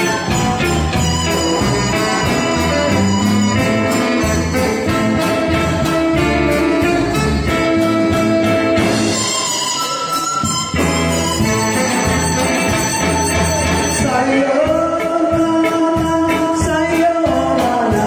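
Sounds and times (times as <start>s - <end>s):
band playing instrumental music: 0.0s - 18.0s.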